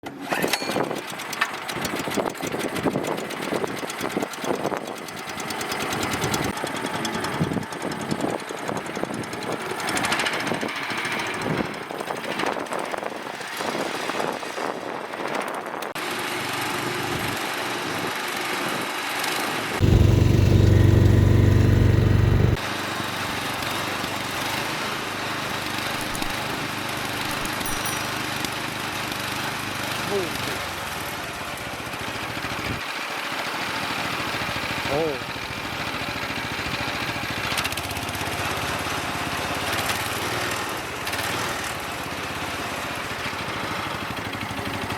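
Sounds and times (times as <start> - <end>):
small gasoline engine running: 0.7 - 14.1, 16.0 - 44.9.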